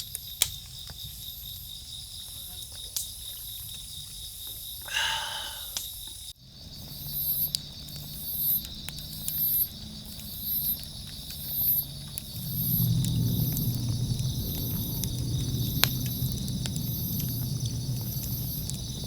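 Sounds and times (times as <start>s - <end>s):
crickets and insects chirping: 0.0s - 19.0s.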